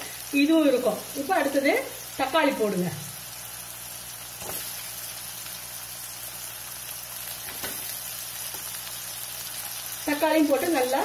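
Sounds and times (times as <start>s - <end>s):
shallots sizzling in hot oil: 0.0s - 11.0s.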